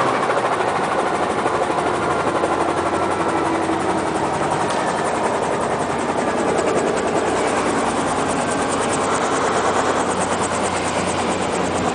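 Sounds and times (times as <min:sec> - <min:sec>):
helicopter running: 0:00.0 - 0:11.9.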